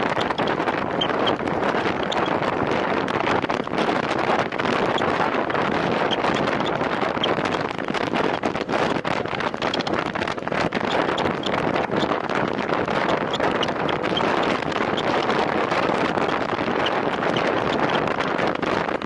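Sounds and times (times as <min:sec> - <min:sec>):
bicycle road noise: 0:00.0 - 0:19.0
small rattles and ticks: 0:00.0 - 0:19.0
wind on microphone: 0:00.0 - 0:19.0.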